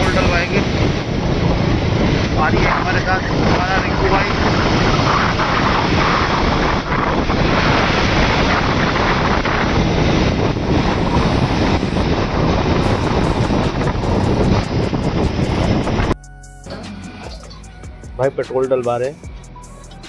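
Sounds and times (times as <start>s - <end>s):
motorcycle running: 0.0s - 16.2s
wind buffeting microphone: 0.0s - 16.2s
road noise: 0.0s - 20.0s.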